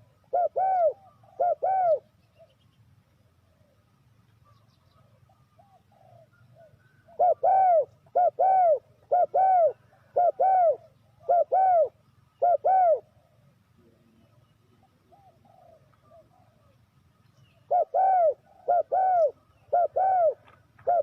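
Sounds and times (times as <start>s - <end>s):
dove cooing: 0.0s - 2.6s, 3.2s - 16.9s, 17.5s - 21.0s.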